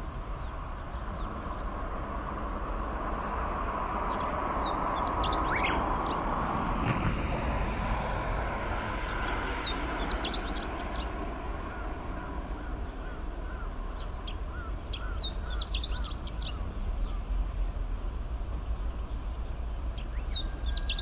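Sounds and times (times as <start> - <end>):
bunting singing: 0.0 - 17.8, 18.9 - 21.0.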